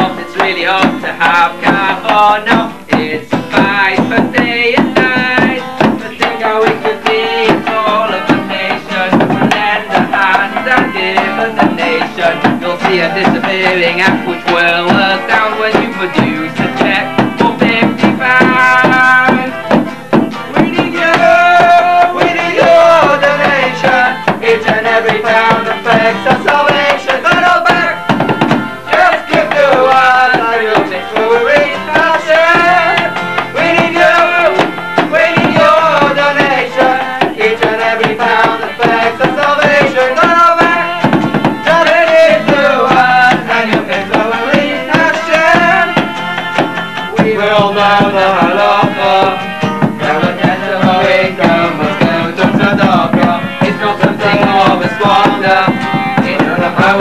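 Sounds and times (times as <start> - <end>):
steady drum beat: 0.0 - 57.0.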